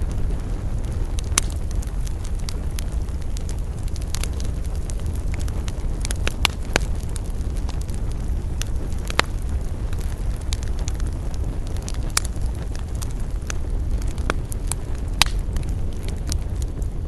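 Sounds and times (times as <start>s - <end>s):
burning wood crackling and popping: 0.0s - 17.0s
campfire flames rumbling: 0.0s - 17.0s.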